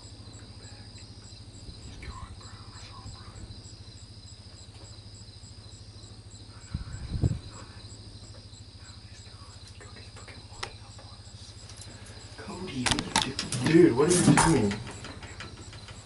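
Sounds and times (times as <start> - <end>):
insects buzzing: 0.0 - 16.0
low hum: 0.0 - 16.0.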